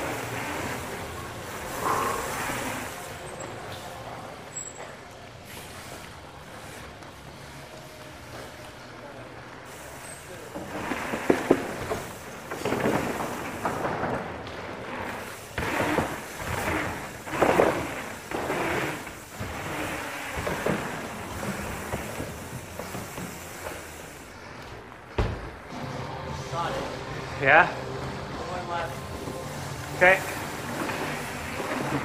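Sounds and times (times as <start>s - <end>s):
bike tyre and rattle noise: 0.0s - 25.8s, 26.6s - 32.0s.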